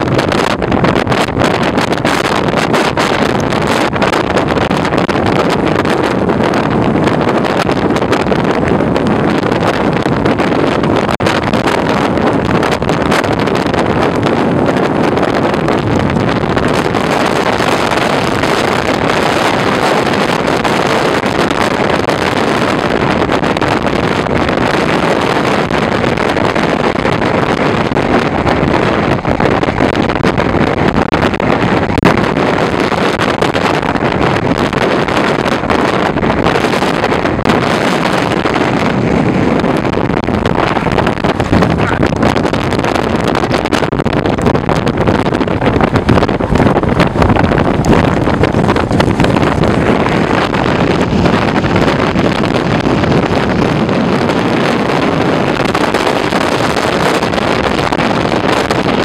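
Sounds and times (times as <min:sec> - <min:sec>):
heavy surf breaking: 0:00.0 - 0:59.0
strong wind buffeting microphone: 0:00.0 - 0:59.0.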